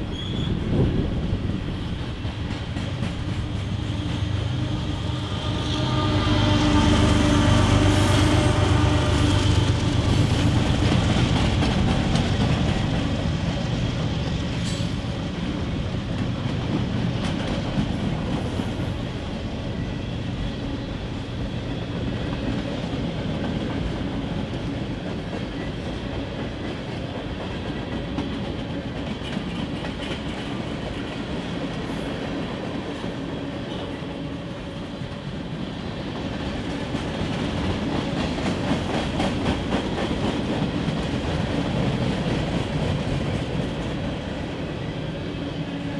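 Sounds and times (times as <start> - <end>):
freight train wheels clattering: 0.0 - 45.9.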